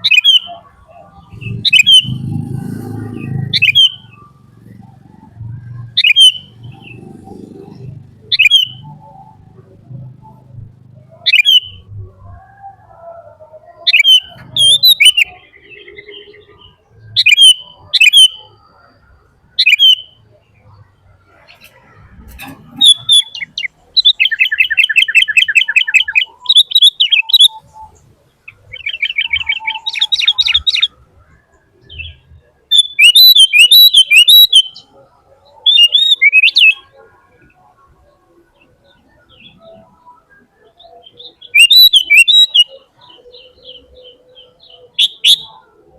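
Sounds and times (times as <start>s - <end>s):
bird chirping and trilling: 0.0s - 45.9s.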